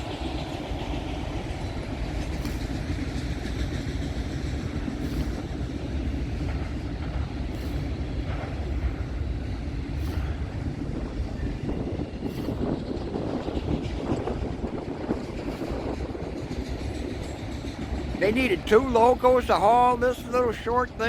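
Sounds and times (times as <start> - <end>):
freight train rumbling: 0.0 - 21.0
train wheels clacking: 0.0 - 21.0.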